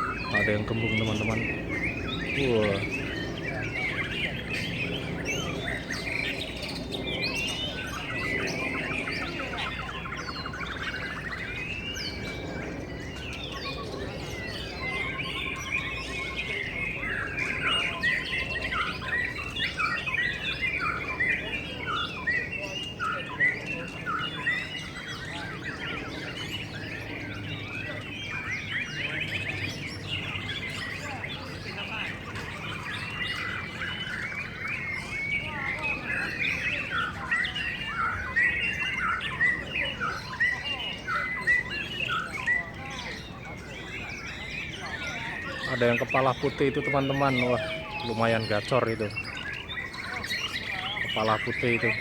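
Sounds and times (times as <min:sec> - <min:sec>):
chorus of songbirds singing: 0:00.0 - 0:52.0.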